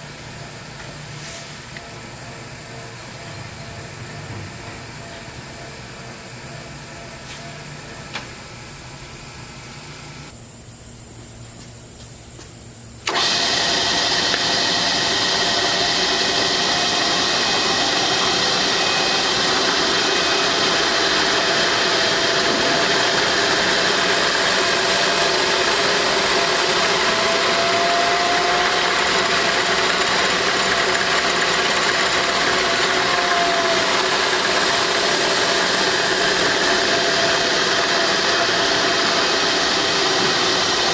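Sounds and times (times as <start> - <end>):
milling machine whirring: 0.0 - 10.4, 13.0 - 40.9.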